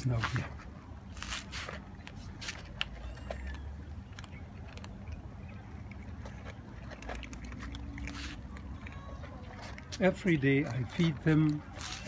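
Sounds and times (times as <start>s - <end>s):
cats crunching dry kibble: 0.0s - 12.0s.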